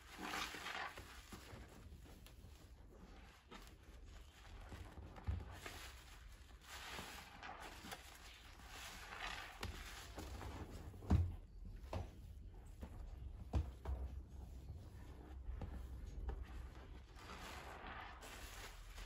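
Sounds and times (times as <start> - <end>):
soapy sponge squelching: 0.0 - 19.0.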